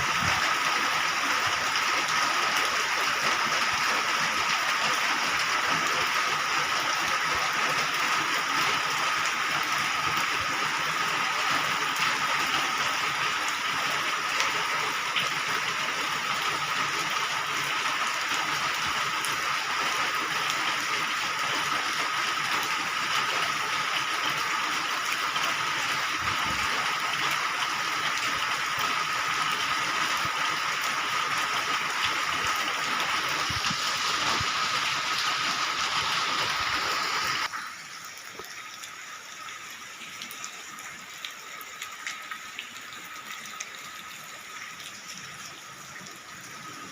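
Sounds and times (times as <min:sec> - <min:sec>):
steady rain hiss: 0:00.0 - 0:46.9.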